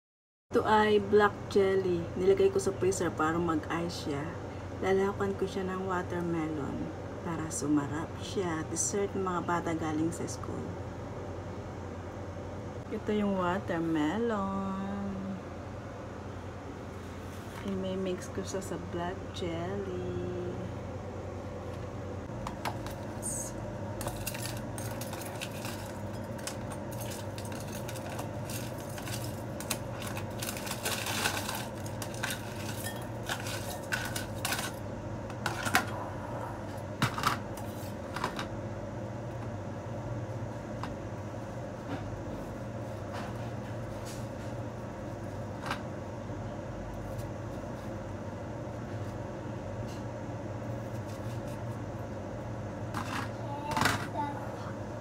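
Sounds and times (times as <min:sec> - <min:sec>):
steady low hum: 0:00.5 - 0:55.0.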